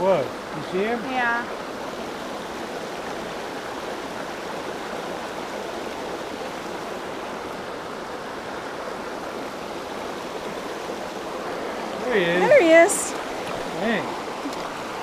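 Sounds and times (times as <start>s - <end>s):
creek running over stones: 0.0s - 15.0s.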